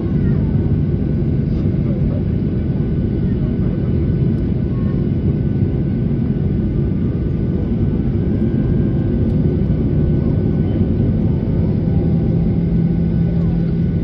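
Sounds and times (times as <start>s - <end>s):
jet airliner rumble: 0.0s - 14.0s.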